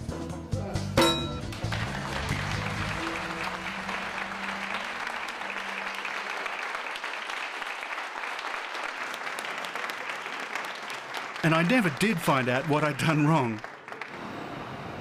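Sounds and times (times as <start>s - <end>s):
men applauding: 1.5s - 14.4s.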